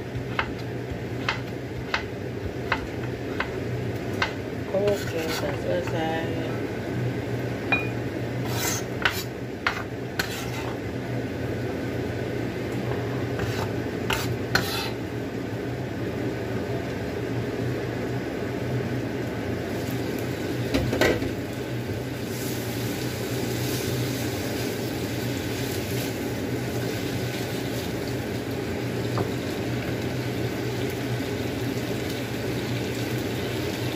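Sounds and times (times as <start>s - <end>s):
kitchen hiss and low hum: 0.0s - 33.9s.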